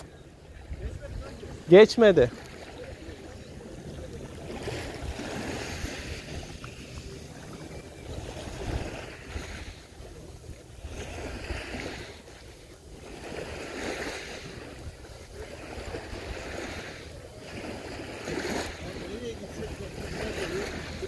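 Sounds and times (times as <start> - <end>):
small waves lapping on shore: 0.0 - 21.0.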